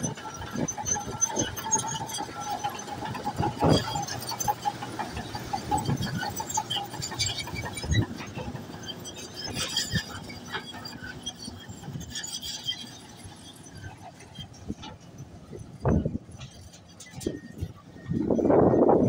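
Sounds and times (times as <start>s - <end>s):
metallic squeaks and clinks: 0.0s - 19.0s.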